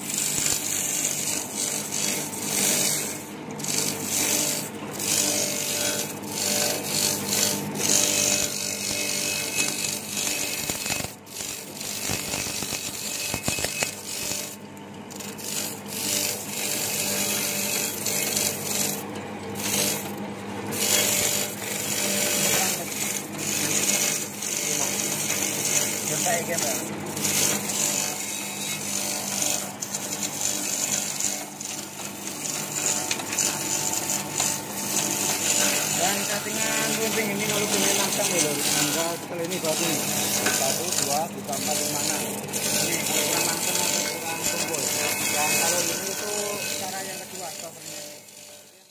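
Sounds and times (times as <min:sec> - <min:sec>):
motor hum: 0:00.0 - 0:48.3
skewers being ground: 0:00.0 - 0:48.9.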